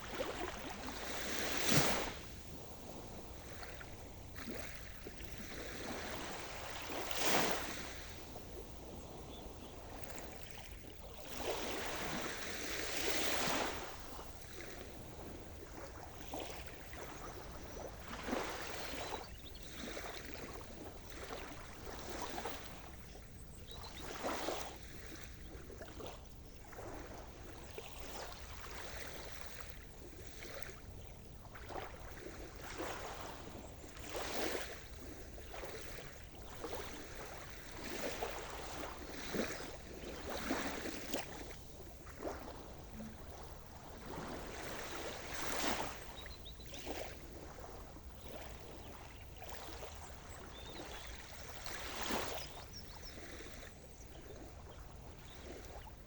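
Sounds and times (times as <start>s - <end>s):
low wash of water: 0.0s - 56.0s
waves splashing at shore: 0.0s - 56.0s.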